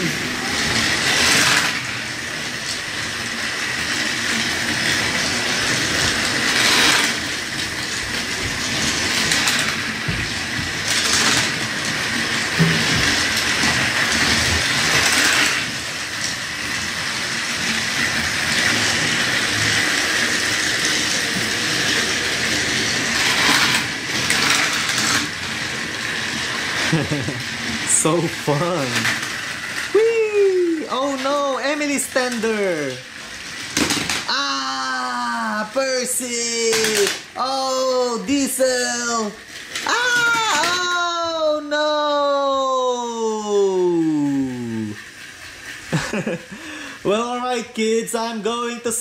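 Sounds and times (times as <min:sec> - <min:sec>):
toy train motors whirring: 0:00.0 - 0:49.0.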